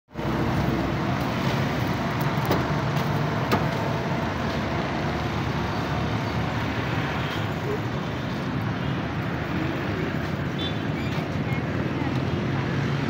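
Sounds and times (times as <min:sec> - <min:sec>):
road traffic: 0:00.1 - 0:13.0.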